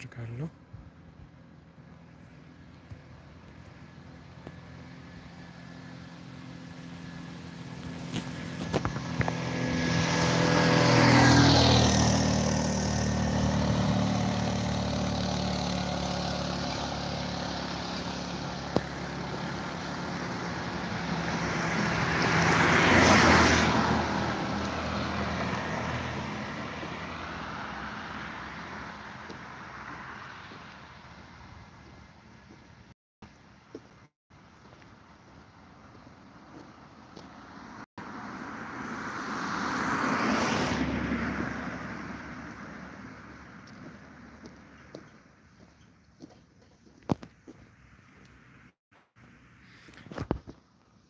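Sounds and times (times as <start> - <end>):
vehicle passing with broad rush: 0.0 - 51.0
vehicle engine hum passing: 0.6 - 50.4.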